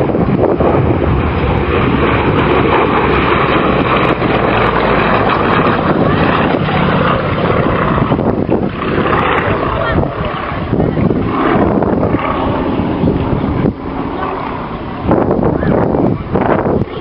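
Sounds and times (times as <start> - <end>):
radial engine and propeller running: 0.0 - 17.0.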